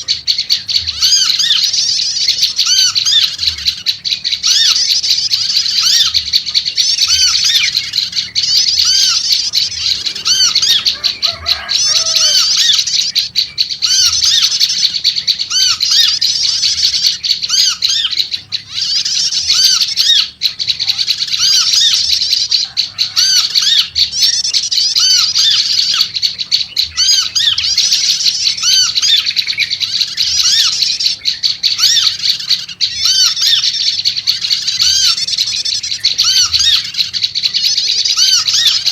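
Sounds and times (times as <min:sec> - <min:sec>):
bird chattering in high notes: 0:00.0 - 0:38.9.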